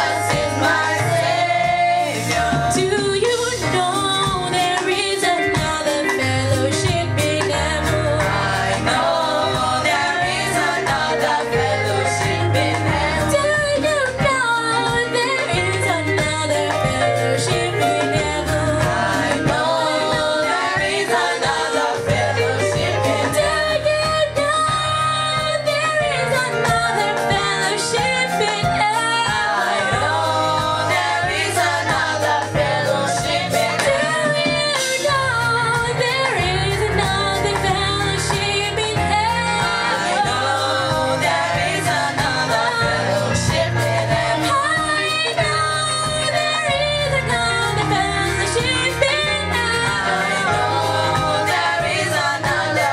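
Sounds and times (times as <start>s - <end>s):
worship music with singing: 0.0s - 52.9s.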